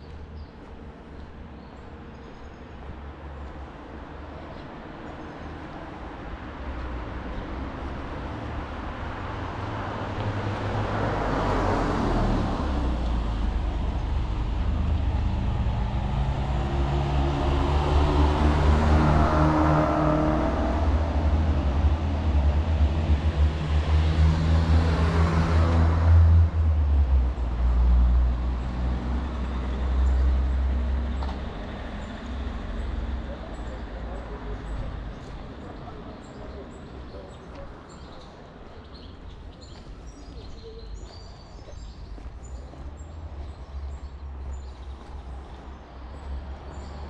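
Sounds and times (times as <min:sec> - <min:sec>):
vehicles passing by: 0:00.0 - 0:47.0.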